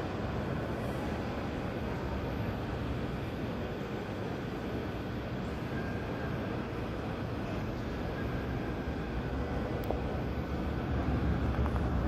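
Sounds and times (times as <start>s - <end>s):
muffled jet engines rumbling: 0.0s - 12.0s.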